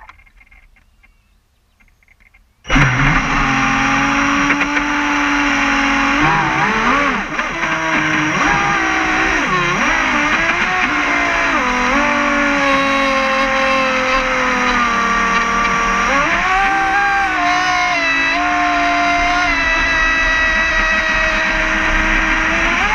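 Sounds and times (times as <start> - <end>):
model boat motor running: 2.7 - 22.9.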